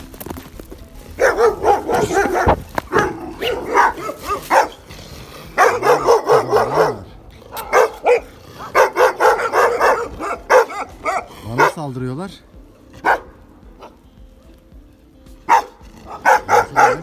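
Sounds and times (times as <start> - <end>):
dogs barking aggressively: 1.1 - 12.0, 12.9 - 14.0, 15.4 - 17.0.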